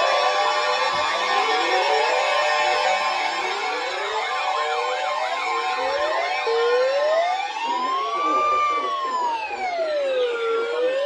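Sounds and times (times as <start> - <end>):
siren wail rising and falling: 0.0 - 11.0
sirens sweeping up and down: 0.0 - 11.0.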